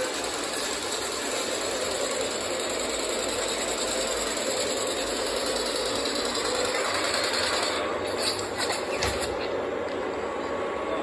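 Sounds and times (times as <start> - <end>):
model trains whirring on rails: 0.0 - 11.0.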